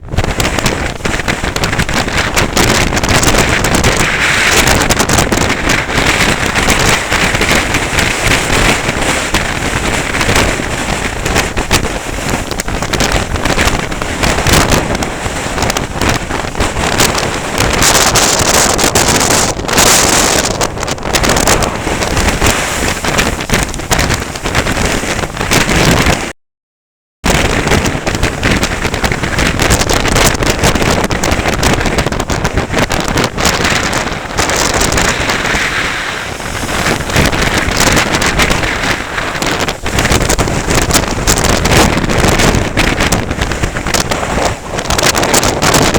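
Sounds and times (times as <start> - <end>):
wind buffeting microphone: 0.0 - 26.3, 27.2 - 45.9.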